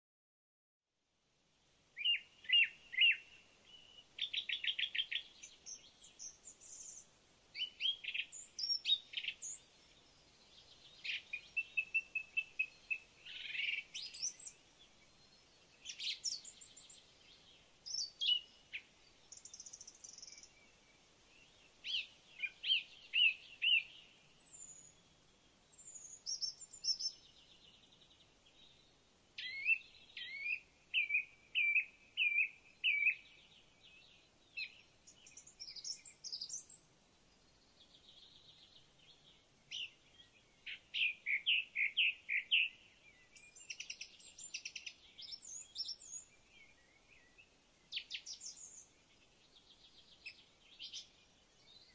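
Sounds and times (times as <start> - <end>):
faint steady background noise: 0.9 - 51.9
birds chirping and trilling: 2.0 - 51.9.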